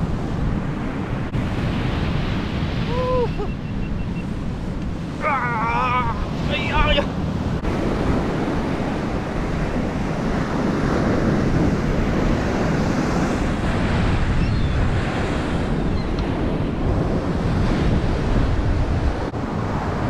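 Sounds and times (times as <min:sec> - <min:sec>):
ocean surf breaking on sand: 0:00.0 - 0:20.0
wind buffeting microphone: 0:00.0 - 0:20.0.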